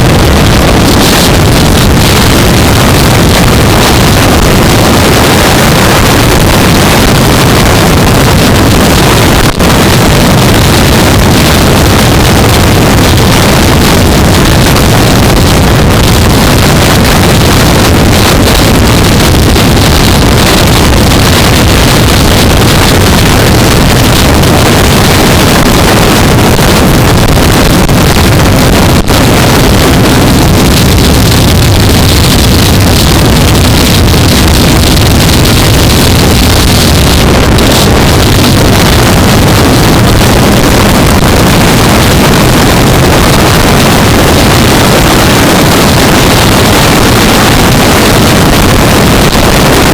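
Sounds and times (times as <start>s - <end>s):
wind rush on microphone: 0.0s - 49.9s.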